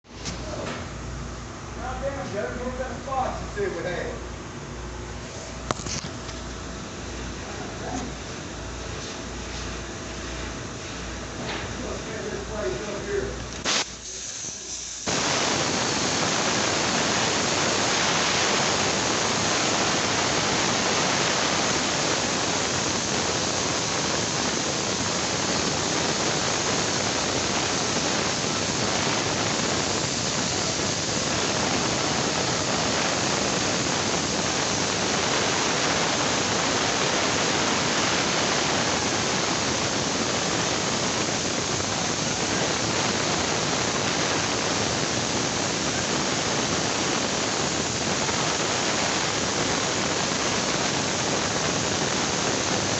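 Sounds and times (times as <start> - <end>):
loud steady hiss: 0.0 - 4.5, 9.0 - 52.9.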